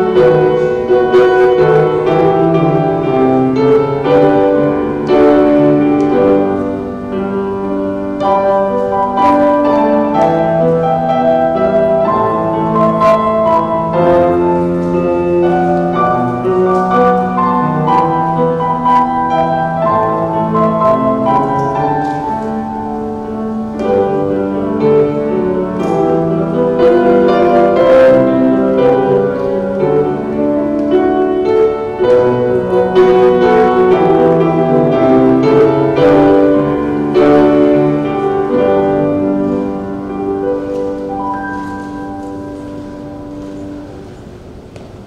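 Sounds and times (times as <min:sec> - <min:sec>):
grand piano playing: 0:00.0 - 0:45.0.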